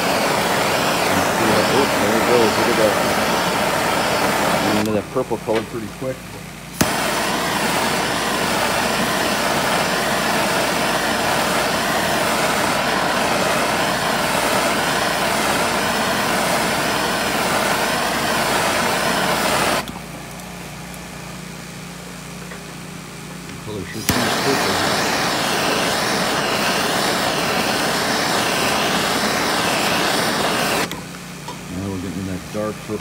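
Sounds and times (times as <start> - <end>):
gas torch flame hissing: 0.0 - 19.9, 23.7 - 33.0.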